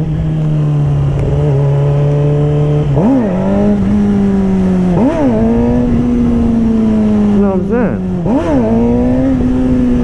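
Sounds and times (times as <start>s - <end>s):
low wind rumble: 0.0s - 10.0s
motorcycle engine revving: 0.0s - 10.0s.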